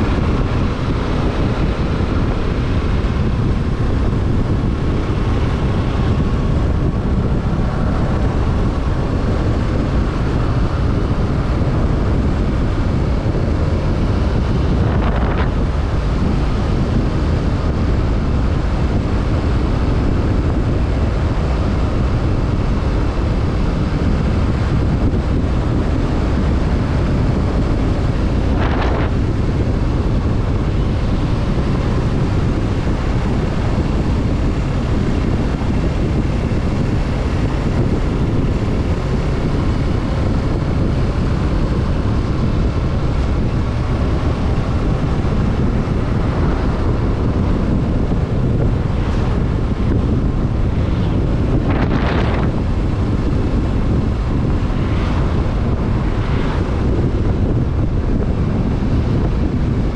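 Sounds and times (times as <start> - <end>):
motorcycle engine cruising: 0.0 - 59.9
wind rush over microphone: 0.0 - 59.9.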